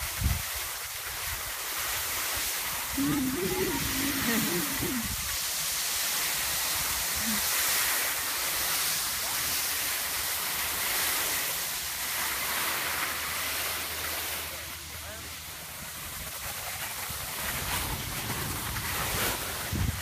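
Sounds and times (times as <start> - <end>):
skis sliding over snow: 0.0 - 20.0.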